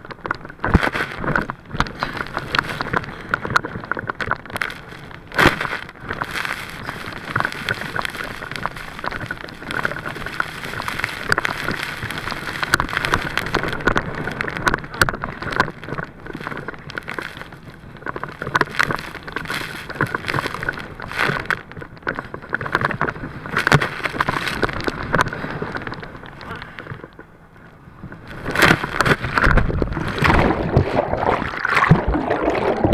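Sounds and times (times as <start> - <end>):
water rushing and splashing: 0.0 - 22.9, 28.2 - 32.9
tube slapping on waves: 0.0 - 27.3, 28.1 - 32.9.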